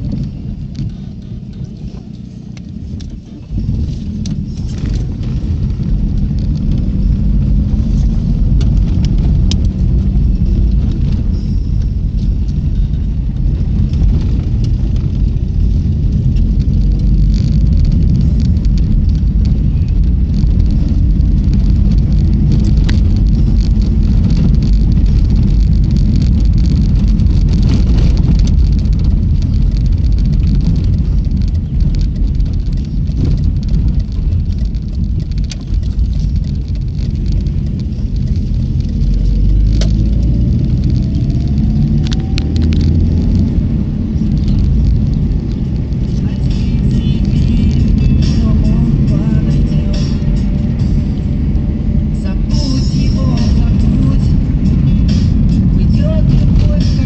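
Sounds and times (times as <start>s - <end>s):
car engine and road rumble: 0.0s - 57.0s
tyre noise: 0.0s - 57.0s.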